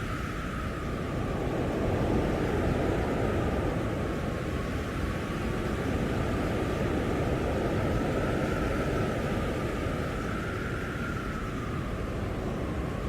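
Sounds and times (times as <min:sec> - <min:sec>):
blizzard wind rushing: 0:00.0 - 0:13.0.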